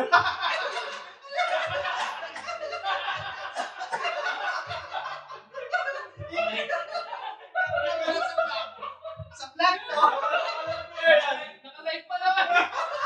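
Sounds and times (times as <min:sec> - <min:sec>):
background music with low beat: 0:00.0 - 0:11.3
people laughing: 0:00.0 - 0:11.5, 0:12.1 - 0:13.0.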